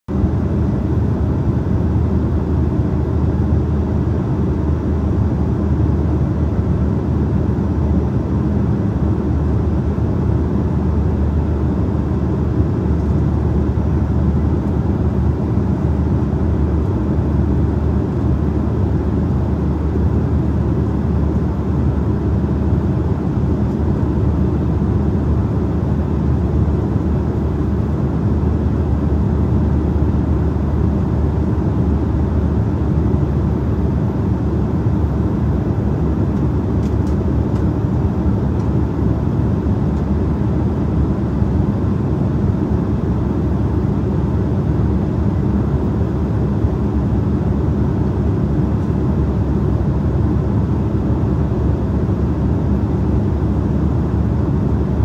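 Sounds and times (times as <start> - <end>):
faint steady whine: 0.1 - 55.0
jet engine hum: 0.1 - 55.0.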